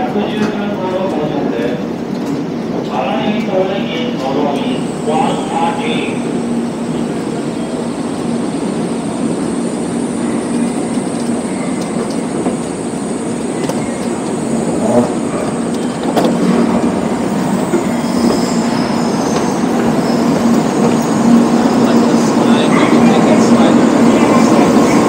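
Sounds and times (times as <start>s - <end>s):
station platform hum and rumble: 0.0s - 25.0s.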